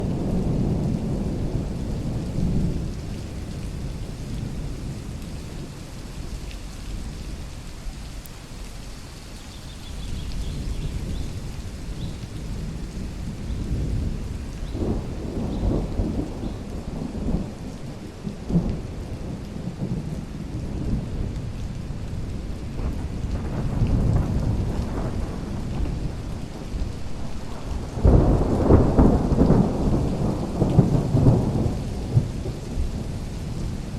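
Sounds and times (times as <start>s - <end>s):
rain in a forest: 0.0s - 33.9s.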